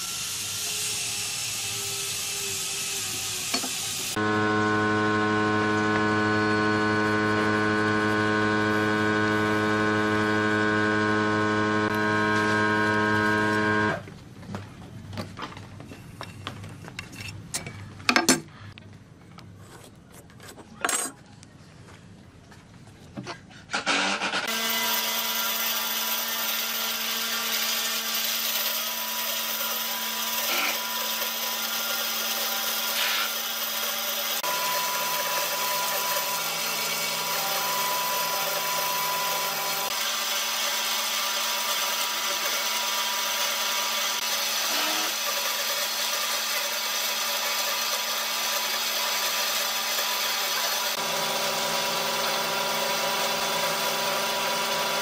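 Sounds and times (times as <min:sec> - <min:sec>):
electric woodworking power tool running: 0:00.0 - 0:14.0, 0:23.8 - 0:55.0.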